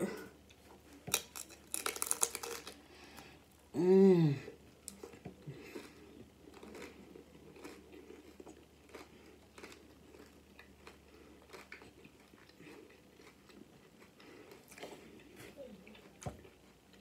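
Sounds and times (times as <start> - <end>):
chewing with small crunches: 0.3 - 3.6, 4.7 - 17.0.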